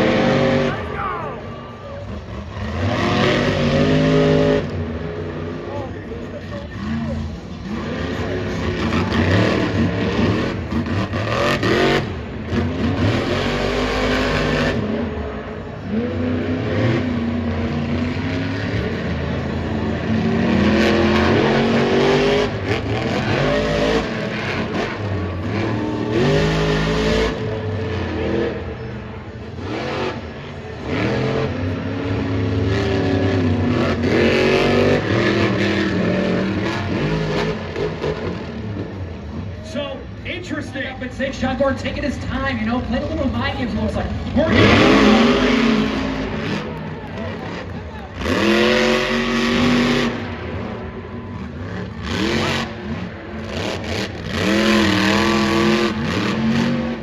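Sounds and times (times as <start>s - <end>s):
truck engine revving hard: 0.0s - 57.0s.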